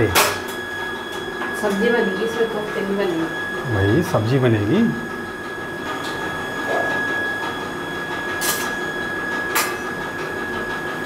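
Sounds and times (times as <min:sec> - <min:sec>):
mechanical whir with high whine: 0:00.0 - 0:11.0.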